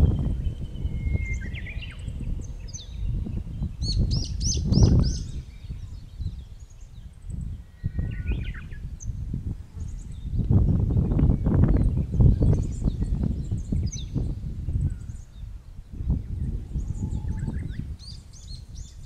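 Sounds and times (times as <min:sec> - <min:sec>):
songbirds chirping: 0:00.0 - 0:19.0
wind gusting on microphone: 0:00.0 - 0:19.0.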